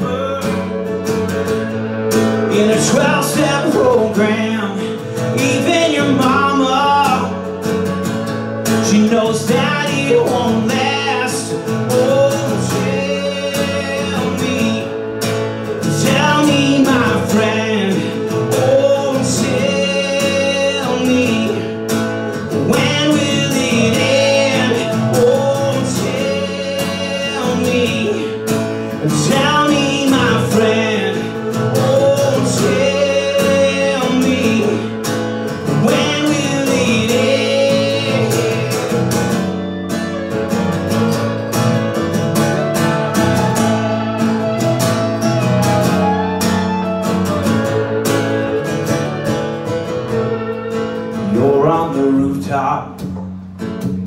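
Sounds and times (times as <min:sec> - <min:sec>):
live band with guitars: 0:00.0 - 0:54.0.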